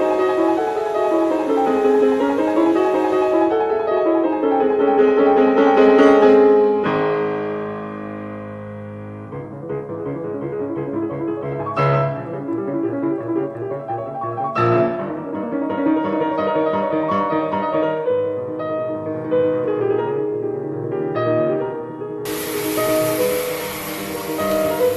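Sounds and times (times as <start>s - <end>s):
piano music: 0.0s - 24.9s.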